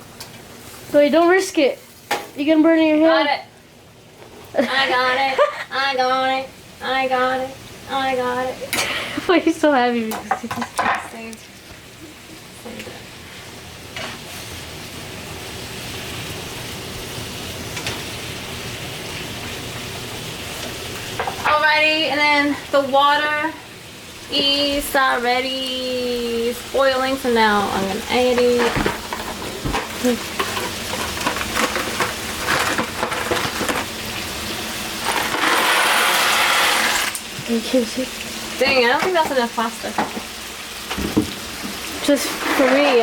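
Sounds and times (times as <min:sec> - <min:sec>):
vegetables sizzling in a frying pan: 0:00.0 - 0:43.0.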